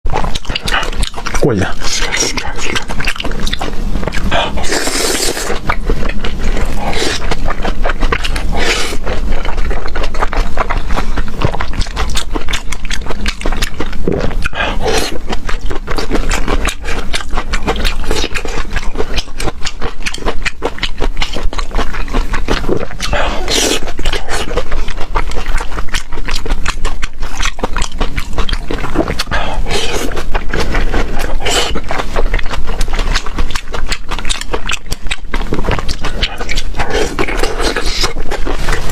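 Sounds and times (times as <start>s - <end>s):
slurps: 0.1s - 17.1s, 21.4s - 26.0s, 28.4s - 38.9s
loud chewing and mouth noises: 0.1s - 38.9s.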